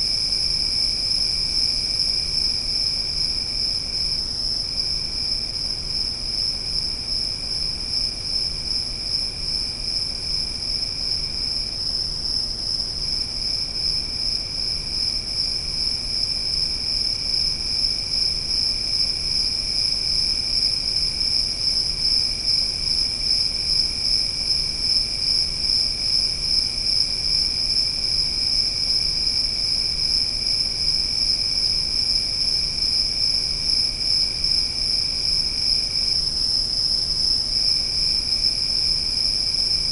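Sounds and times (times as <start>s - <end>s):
high pulsing insect trill: 0.0s - 39.9s
lower insect trill: 0.0s - 39.9s.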